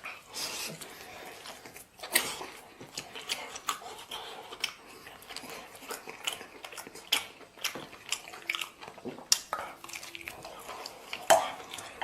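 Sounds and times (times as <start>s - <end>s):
chewing with clicks and crackles: 0.0s - 12.0s.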